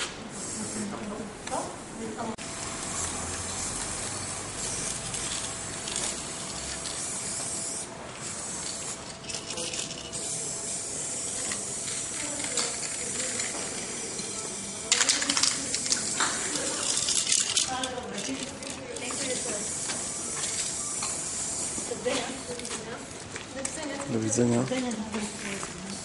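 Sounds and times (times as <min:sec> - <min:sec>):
spray-paint can hissing: 0:00.3 - 0:01.1, 0:02.6 - 0:22.9.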